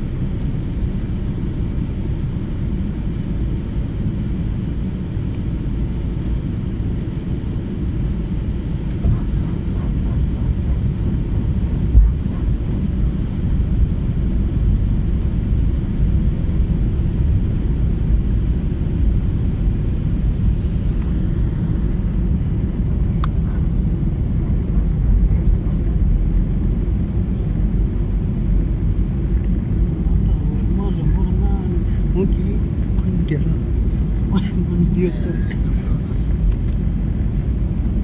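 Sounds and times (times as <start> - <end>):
airplane rumble: 0.0 - 38.0.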